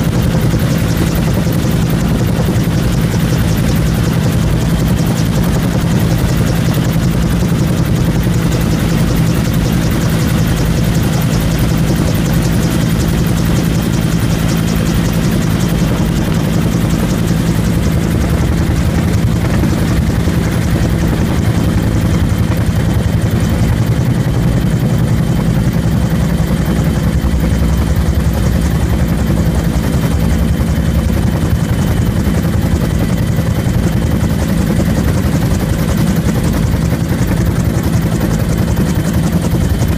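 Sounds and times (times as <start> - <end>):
helicopter rotor beating: 0.0 - 39.9
turbine engine: 0.0 - 39.9.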